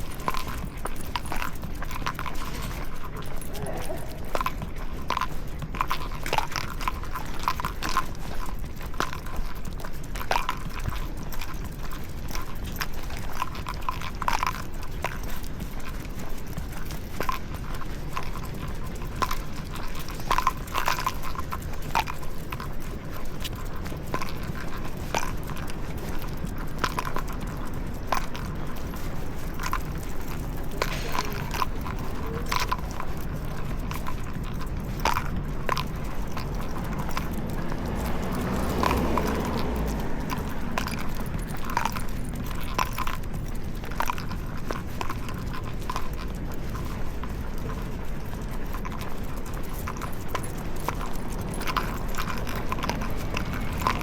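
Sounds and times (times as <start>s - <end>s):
footsteps on pavement: 0.0s - 54.0s
low rumble of street noise: 0.0s - 54.0s.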